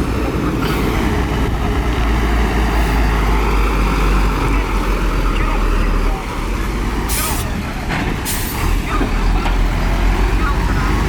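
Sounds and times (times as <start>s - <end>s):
heavy diesel engine rumbling: 0.0s - 11.0s.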